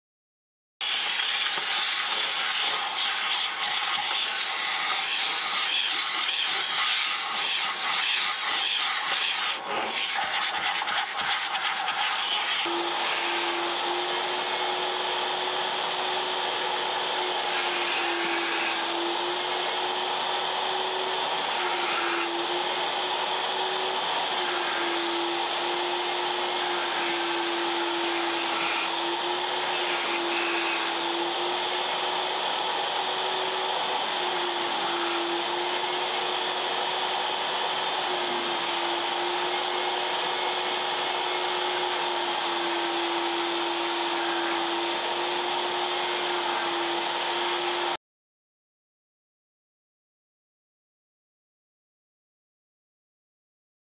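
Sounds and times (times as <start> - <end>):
vacuum cleaner running: 0.8 - 48.0.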